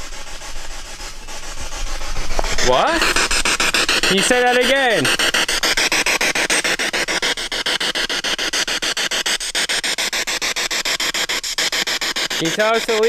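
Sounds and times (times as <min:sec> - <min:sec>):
pulsing radio static: 0:02.4 - 0:13.0.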